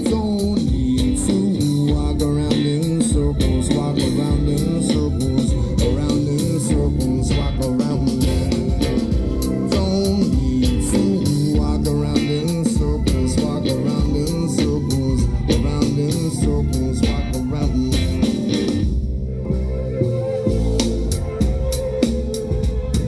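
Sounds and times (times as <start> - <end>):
drum beat: 0.0 - 19.2, 20.5 - 23.0
bass: 0.0 - 23.0
guitar: 0.0 - 23.0.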